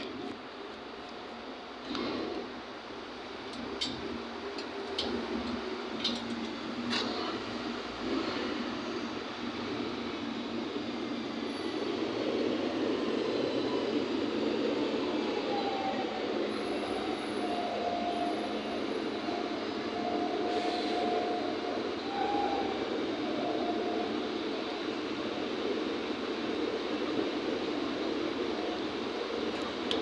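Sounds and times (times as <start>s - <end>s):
train rail noise: 0.0s - 30.0s.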